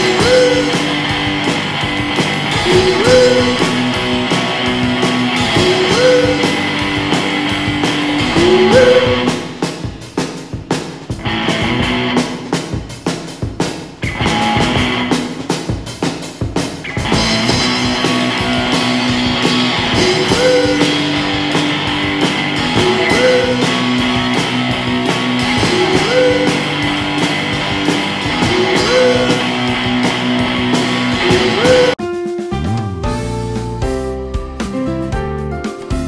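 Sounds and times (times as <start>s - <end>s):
rock music with guitar: 0.0s - 36.0s.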